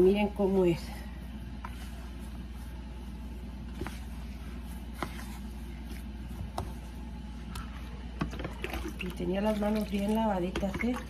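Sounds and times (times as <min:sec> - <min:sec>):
hands kneading dough: 0:00.0 - 0:11.0
steady low hum: 0:00.0 - 0:11.0.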